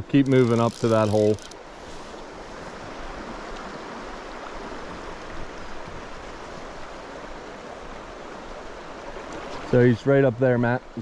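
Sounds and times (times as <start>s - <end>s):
creek water running over gravel: 0.0s - 11.0s.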